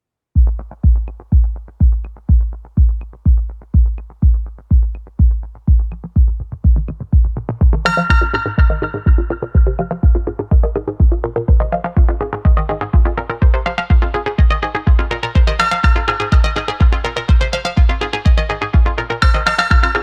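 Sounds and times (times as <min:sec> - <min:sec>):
heavy kick drum beat: 0:00.4 - 0:20.0
synth chords: 0:00.4 - 0:20.0.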